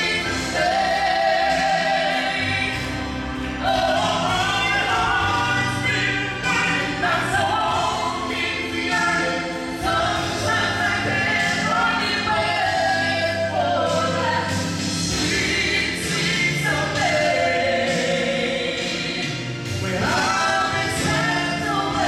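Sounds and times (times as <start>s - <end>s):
man and woman singing duet: 0.0s - 22.0s.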